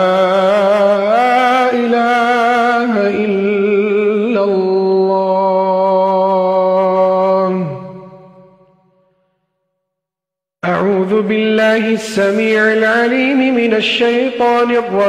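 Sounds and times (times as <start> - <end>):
man chanting call to prayer: 0.0 - 8.6, 10.6 - 15.0.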